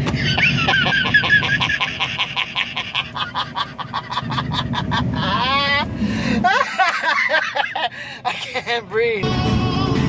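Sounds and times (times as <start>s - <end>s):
man laughing hard: 0.0s - 9.9s
car road noise rumble: 0.0s - 10.0s.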